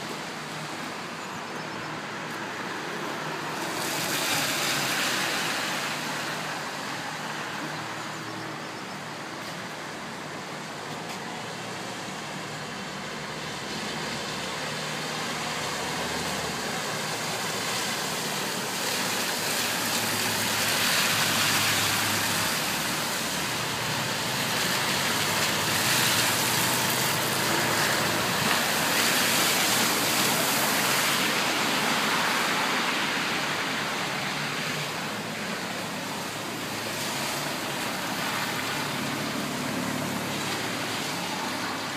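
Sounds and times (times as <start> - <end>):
tyres hissing through floodwater: 0.0 - 41.9.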